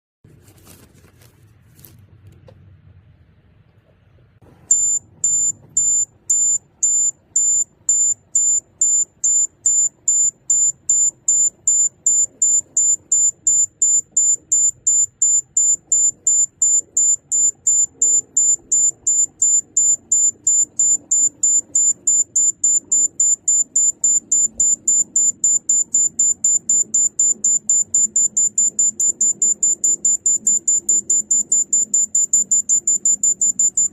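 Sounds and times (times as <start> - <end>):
high electronic alarm beeps: 4.7 - 33.9.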